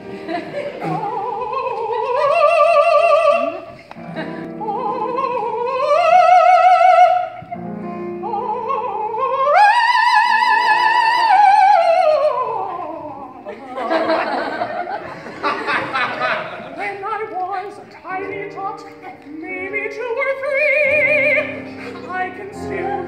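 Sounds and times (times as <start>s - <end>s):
piano accompaniment: 0.0s - 13.5s, 14.1s - 23.0s.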